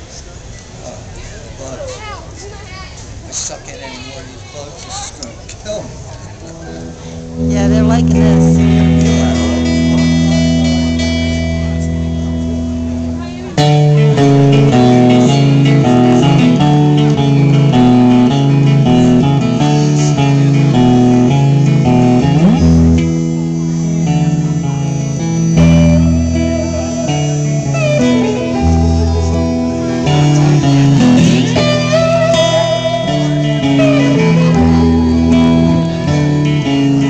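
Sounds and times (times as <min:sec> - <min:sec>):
electric guitars playing: 0:06.2 - 0:37.0
harmonica bent notes: 0:06.8 - 0:37.0.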